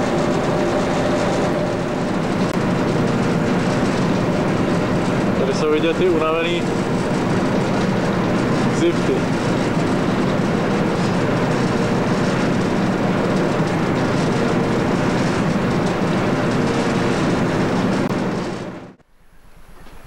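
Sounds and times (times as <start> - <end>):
boat engine droning: 0.0 - 20.0
rushing noise on deck: 0.0 - 20.0.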